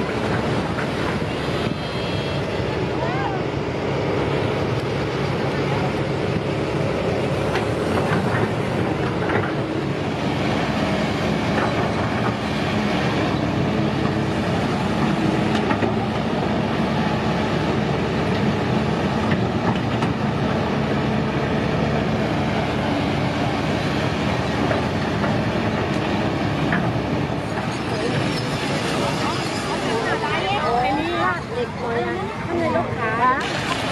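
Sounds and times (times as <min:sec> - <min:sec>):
heavy machine diesel engines: 0:00.0 - 0:33.9.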